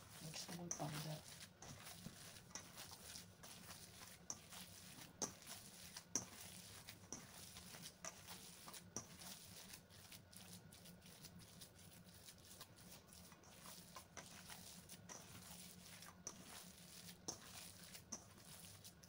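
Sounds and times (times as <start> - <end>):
wet squishing of meat kneading: 0.0 - 19.0.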